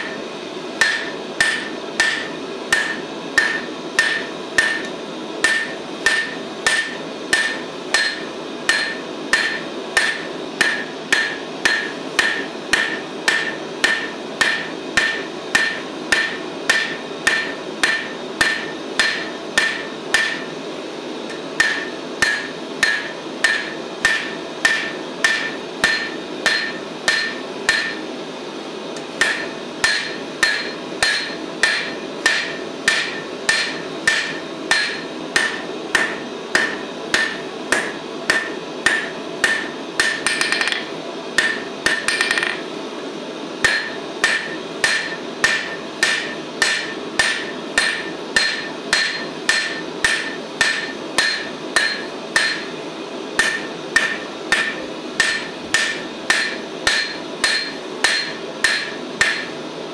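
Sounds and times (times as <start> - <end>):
hammer ringing on anvil: 0.8 - 20.5, 21.3 - 28.0, 29.2 - 42.6, 43.6 - 52.8, 53.4 - 59.5.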